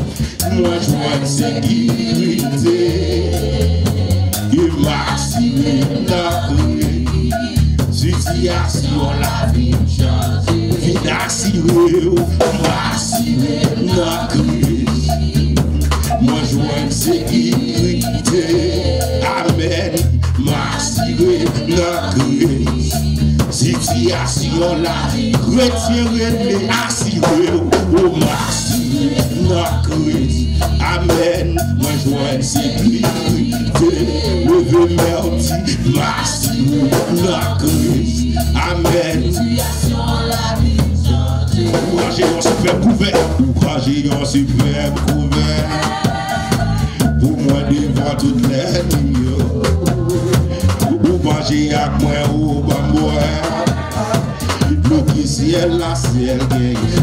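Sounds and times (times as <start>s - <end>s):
backing singers: 0.0s - 57.0s
drums and percussion: 0.0s - 57.0s
lead singer singing: 0.0s - 57.0s.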